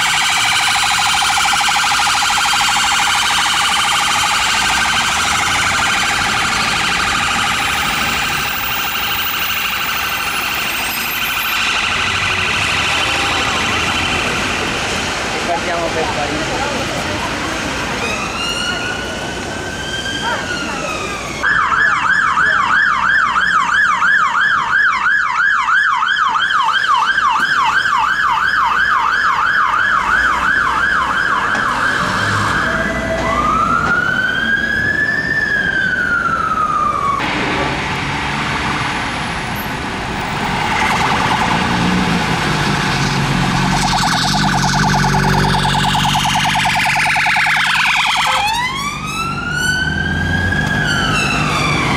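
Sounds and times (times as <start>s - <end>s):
police siren rapid warble: 0.0s - 16.4s, 19.2s - 37.3s, 40.2s - 51.9s
ambulance siren wailing: 0.0s - 37.3s, 38.7s - 51.9s
engine and traffic noise: 0.0s - 51.9s
fire engine siren yelp and wail: 0.0s - 51.9s.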